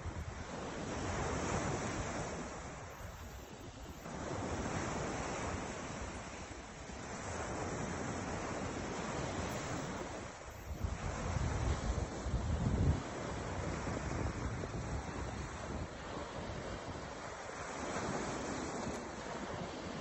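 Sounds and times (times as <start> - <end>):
ocean waves breaking: 0.0 - 20.0
wind rumble on microphone: 0.0 - 20.0.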